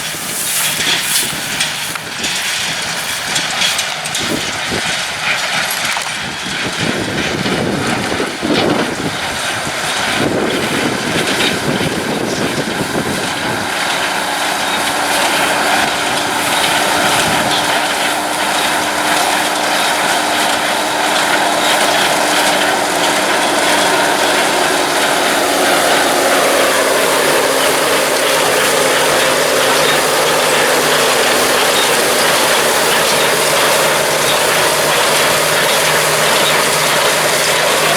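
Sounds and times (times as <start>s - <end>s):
tractor and hay baler running: 0.0s - 37.9s.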